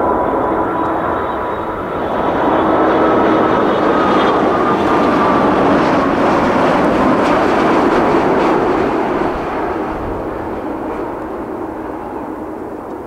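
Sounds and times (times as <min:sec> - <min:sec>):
faint jet engine whine: 0:00.0 - 0:13.0
jet airliner passing low: 0:00.0 - 0:13.0.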